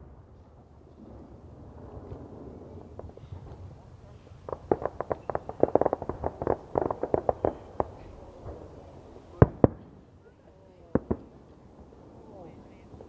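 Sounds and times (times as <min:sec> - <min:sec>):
firecrackers banging: 0:00.0 - 0:09.9, 0:10.9 - 0:13.0.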